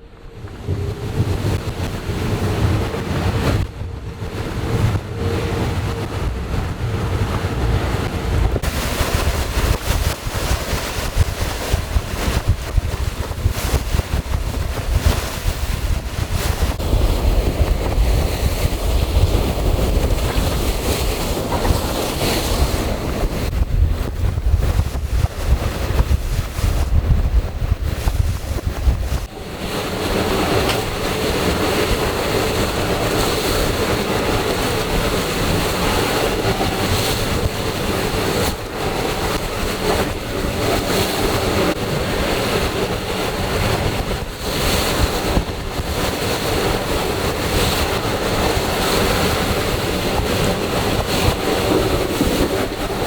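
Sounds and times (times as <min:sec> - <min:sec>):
water rushing along a hull: 0:00.0 - 0:53.0
wind buffeting the microphone: 0:00.0 - 0:53.0.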